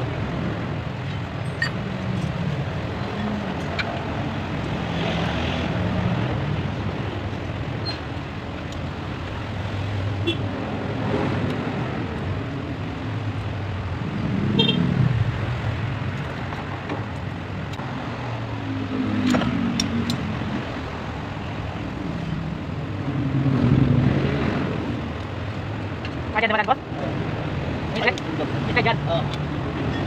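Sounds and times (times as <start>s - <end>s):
traffic going by: 0.0s - 30.0s.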